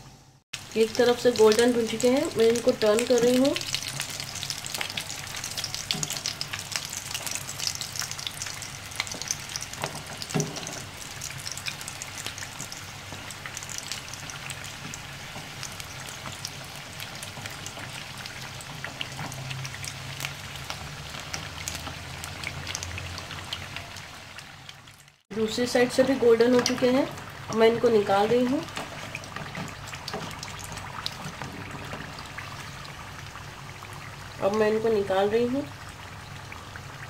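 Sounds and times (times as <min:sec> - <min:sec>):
food deep-frying in hot oil: 0:00.1 - 0:37.0.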